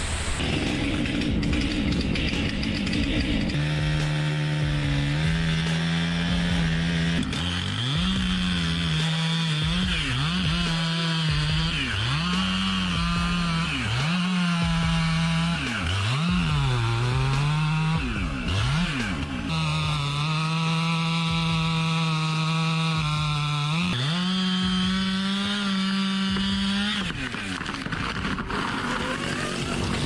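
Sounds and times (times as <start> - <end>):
chainsaw cutting at high revs: 0.0 - 30.0.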